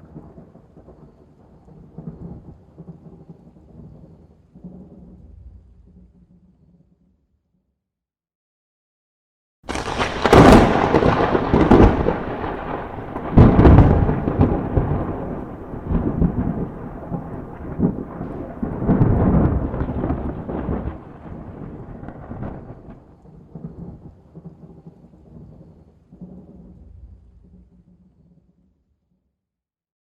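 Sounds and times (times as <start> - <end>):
thunder crack: 0.0 - 6.6, 9.7 - 28.4
rolling thunder rumbles: 0.0 - 6.9, 9.7 - 28.5.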